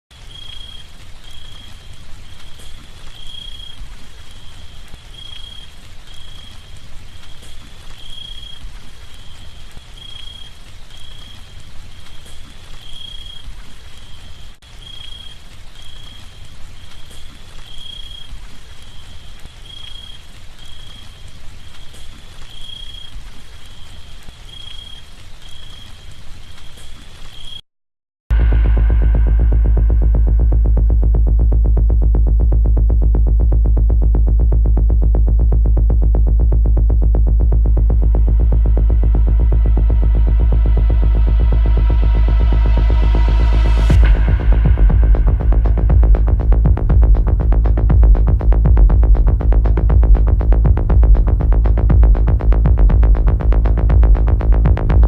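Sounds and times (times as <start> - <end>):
steady rain falling: 0.1 - 27.6, 28.3 - 55.0.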